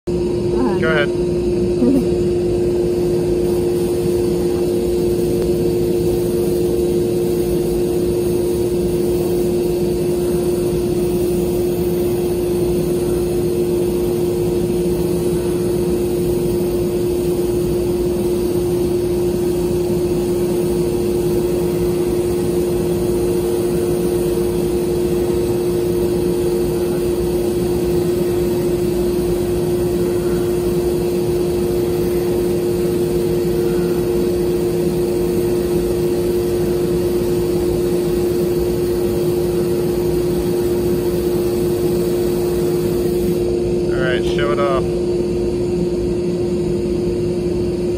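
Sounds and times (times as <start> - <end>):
sandblasting cabinet hum with hiss: 0.1 - 47.9.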